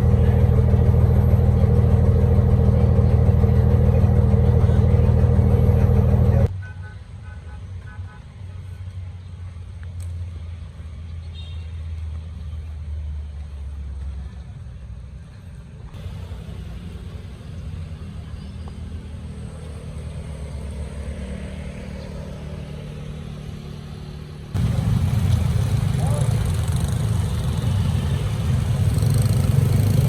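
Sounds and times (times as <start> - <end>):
vehicle engines humming: 0.0 - 6.5, 7.3 - 30.0.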